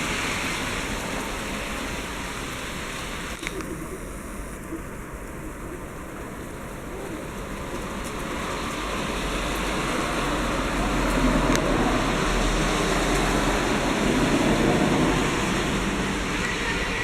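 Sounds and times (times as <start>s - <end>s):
hail pelting down: 0.0s - 17.0s.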